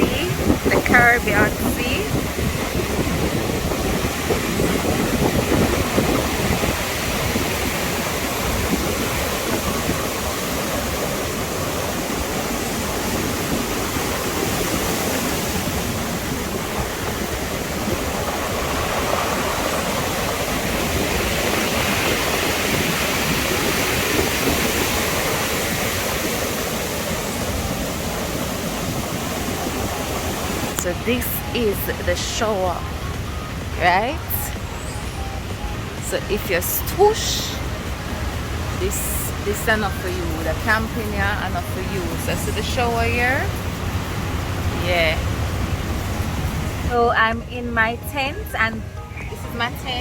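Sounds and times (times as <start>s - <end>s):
surf washing on shore: 0.0s - 50.0s.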